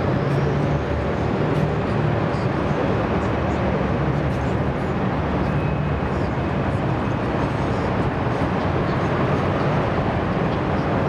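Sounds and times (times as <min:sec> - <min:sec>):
armoured vehicles engine drone: 0:00.0 - 0:11.0.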